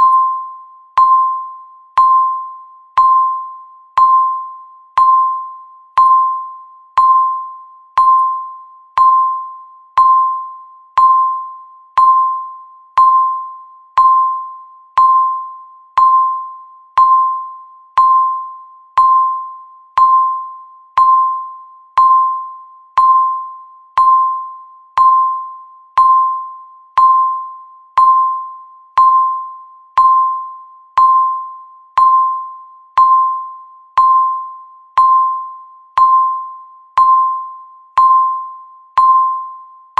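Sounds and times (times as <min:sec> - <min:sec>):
bell-like electronic timer ping: 0:00.0 - 0:39.9.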